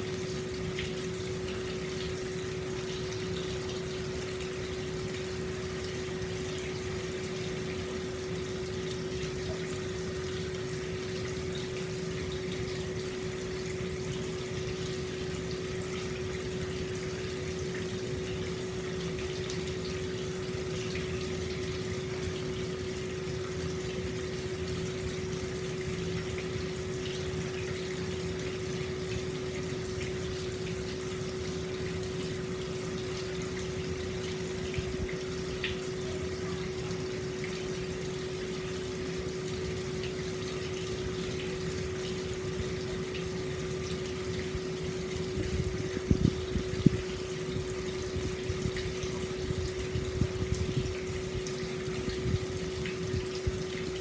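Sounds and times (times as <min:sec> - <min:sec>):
water flowing into a bath: 0:00.0 - 0:54.0.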